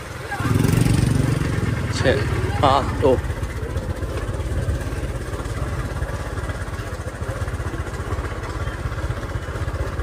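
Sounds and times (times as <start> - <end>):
small motorcycle engine running: 0.0 - 10.0.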